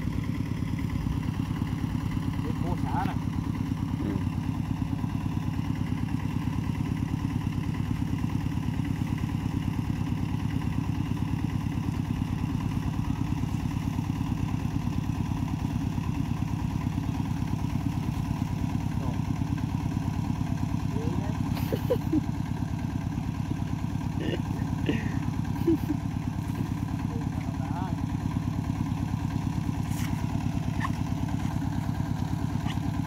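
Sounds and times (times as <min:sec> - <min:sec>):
small engine idling: 0:00.0 - 0:33.0.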